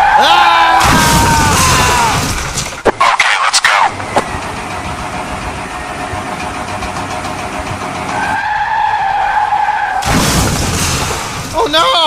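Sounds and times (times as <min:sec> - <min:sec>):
car engine and tyre rush: 0:00.0 - 0:11.8.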